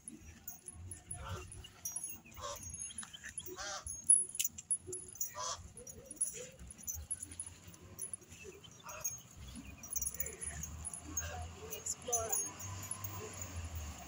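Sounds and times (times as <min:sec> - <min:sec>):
metal chain leash clinking: 0:00.0 - 0:14.0.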